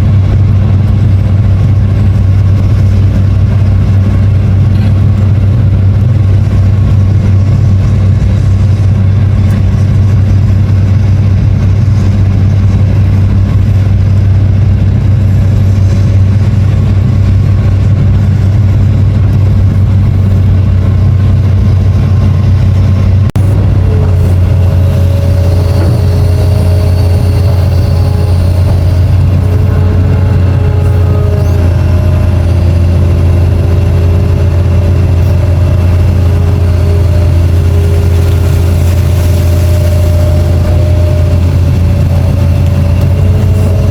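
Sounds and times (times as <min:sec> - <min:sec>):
diesel engine droning: 0:00.0 - 0:43.9
high steady whine: 0:00.0 - 0:43.9.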